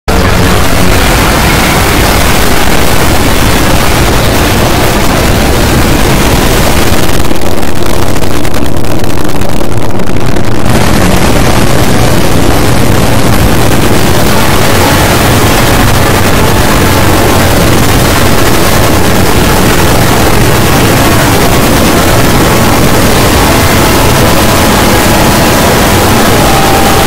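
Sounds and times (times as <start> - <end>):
dense noisy roar of soundtracks: 0.0 - 27.0.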